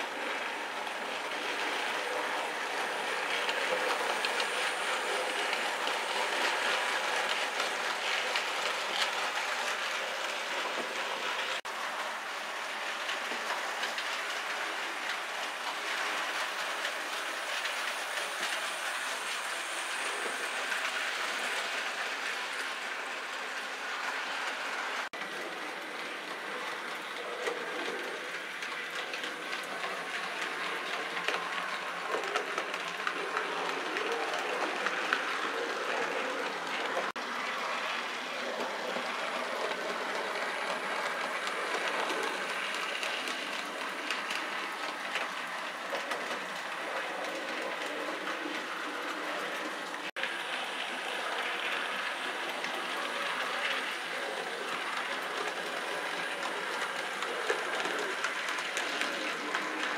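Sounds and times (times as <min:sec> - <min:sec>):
model train wheels on rail: 0:00.0 - 0:59.9.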